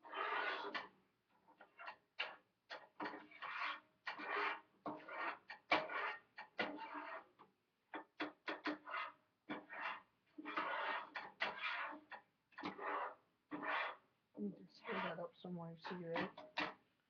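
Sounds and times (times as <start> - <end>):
utensil scraping a pan: 0.0 - 14.1, 14.7 - 16.8.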